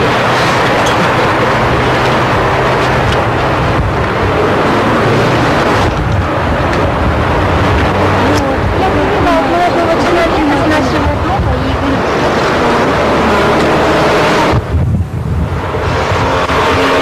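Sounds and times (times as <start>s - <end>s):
loud rushing noise: 0.0s - 17.0s
vehicle engine hum: 0.0s - 17.0s.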